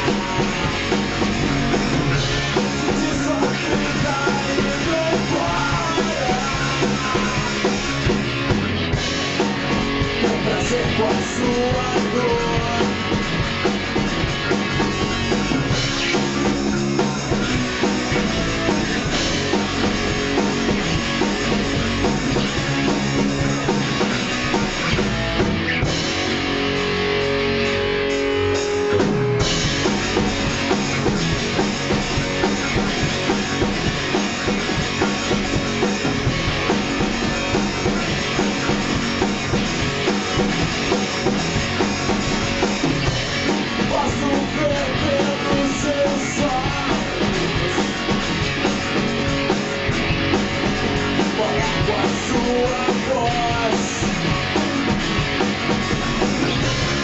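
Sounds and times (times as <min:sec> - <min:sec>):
guitar holding long notes: 0:00.0 - 0:57.0
punk rock band instrumental: 0:00.0 - 0:57.0.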